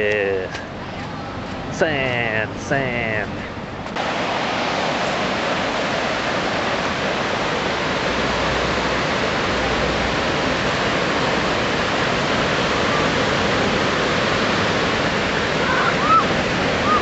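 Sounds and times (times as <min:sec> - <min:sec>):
ocean waves rushing: 0:00.0 - 0:17.0.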